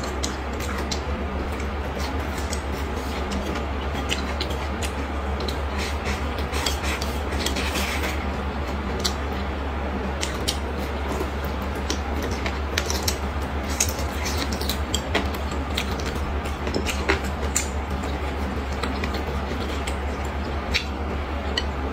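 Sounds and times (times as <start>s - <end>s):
chewing with wet mouth clicks: 0.0s - 9.5s, 10.1s - 21.8s
steady low hum: 0.0s - 21.9s.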